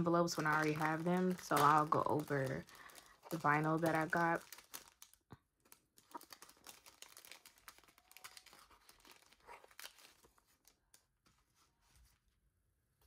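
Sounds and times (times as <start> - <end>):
plastic sheets crinkling and rustling: 0.0 - 12.2.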